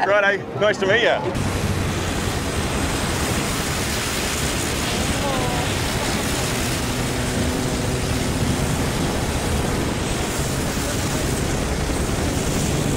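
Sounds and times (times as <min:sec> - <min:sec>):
broad rushing noise: 0:00.0 - 0:12.9
propeller plane engine drone: 0:01.2 - 0:12.9.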